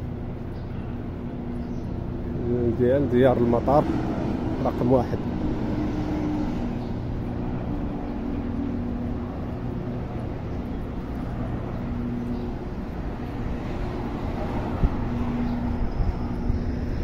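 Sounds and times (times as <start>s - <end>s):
passing engine drones: 0.0s - 17.0s
traffic hum and road noise: 0.0s - 17.0s.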